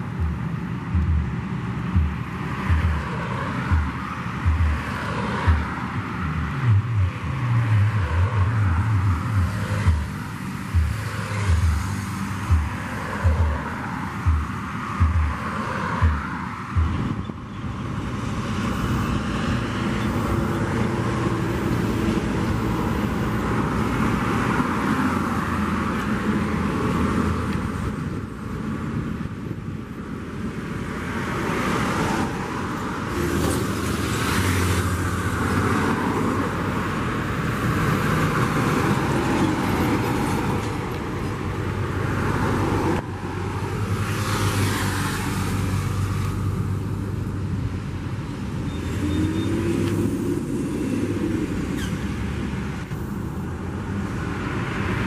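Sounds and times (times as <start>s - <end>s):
heavy diesel truck engines: 0.0s - 55.0s
tyre and road noise: 0.0s - 55.0s.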